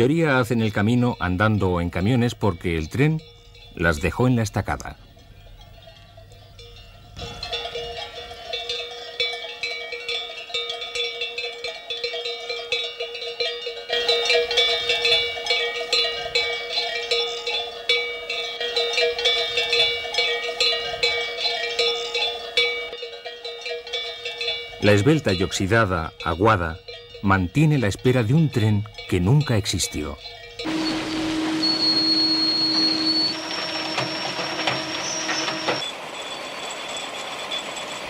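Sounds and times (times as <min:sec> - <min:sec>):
sheep bells clanking: 0:00.0 - 0:38.0.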